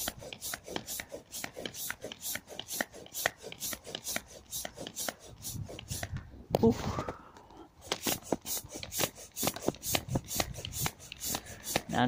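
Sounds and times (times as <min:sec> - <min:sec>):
manual air pump puffing: 0:00.0 - 0:12.0.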